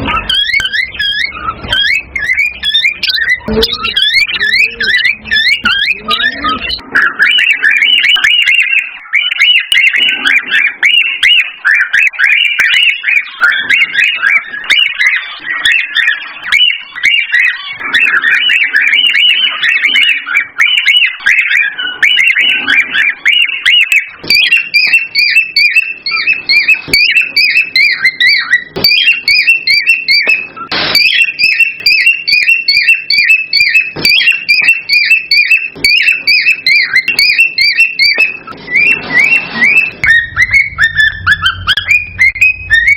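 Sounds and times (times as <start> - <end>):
cockatiel chirping and whistling: 0.0 - 42.9.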